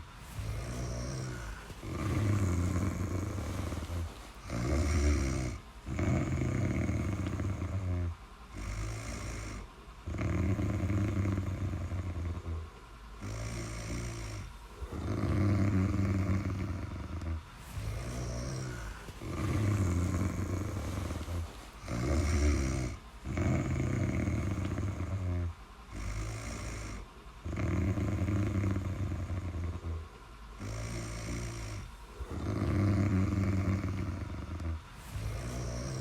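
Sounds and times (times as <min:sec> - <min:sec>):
person snoring: 0:00.2 - 0:36.0.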